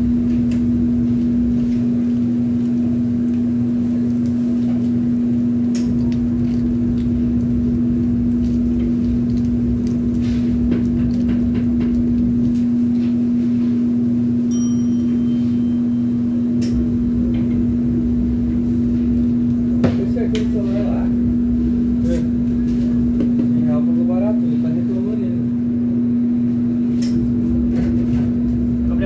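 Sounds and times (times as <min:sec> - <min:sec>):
kitchen equipment humming: 0:00.0 - 0:29.0.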